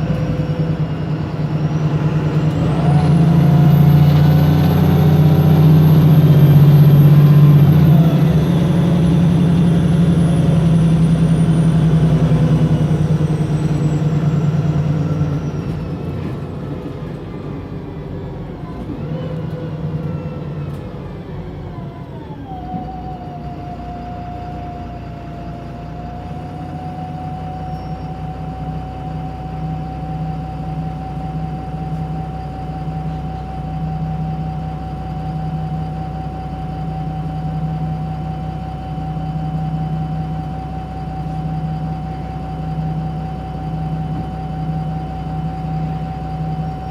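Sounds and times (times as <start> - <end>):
bus diesel engine: 0.0 - 46.9.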